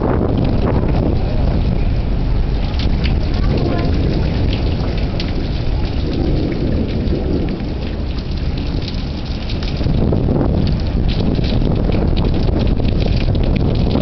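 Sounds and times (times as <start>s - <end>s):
heavy rain pouring: 0.0s - 14.0s
low thunder rumble: 0.0s - 14.0s.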